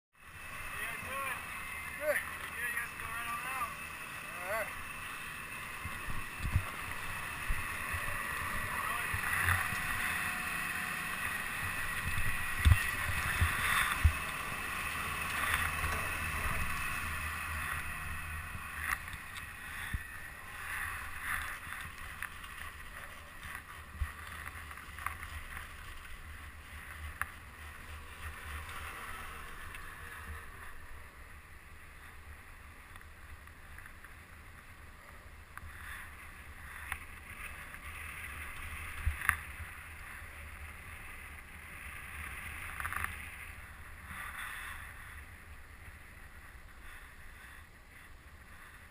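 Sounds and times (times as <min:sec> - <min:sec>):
chairlift mechanical rumble: 0:00.2 - 0:48.9.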